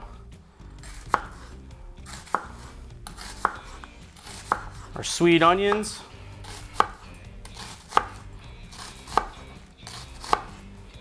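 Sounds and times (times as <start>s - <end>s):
knife slicing onion on board: 0.8s - 10.6s.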